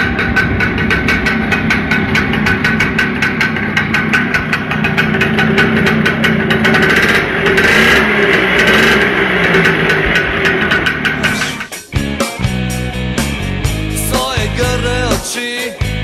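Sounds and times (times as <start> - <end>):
moped engine running and revving: 0.0 - 15.2.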